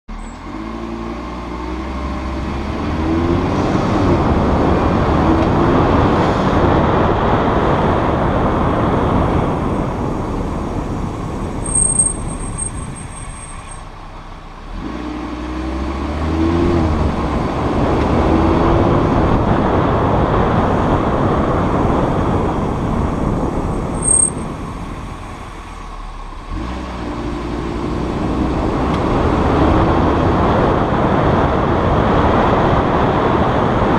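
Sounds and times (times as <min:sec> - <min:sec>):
road noise: 0:00.0 - 0:33.9
brakes squealing: 0:00.1 - 0:31.3
car engine accelerating: 0:00.1 - 0:33.9.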